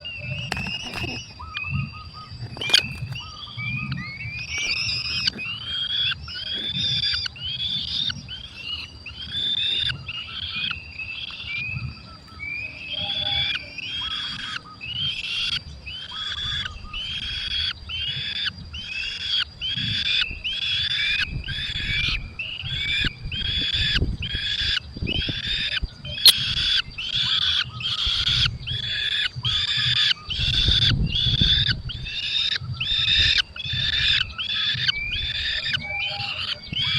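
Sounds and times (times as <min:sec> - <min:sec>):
falcon chicks shrill calls: 0:00.2 - 0:36.9.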